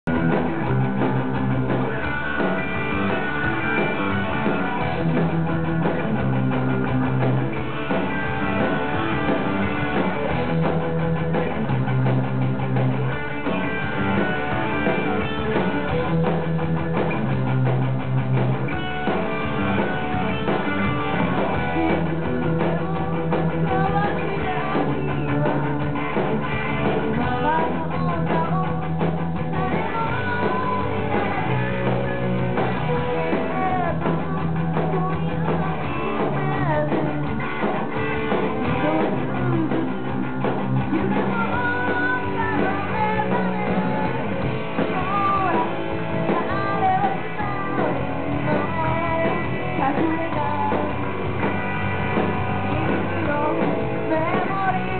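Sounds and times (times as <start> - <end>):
bass guitar: 0.0 - 54.9
drum kit: 0.0 - 54.9
electric guitar: 0.0 - 54.9.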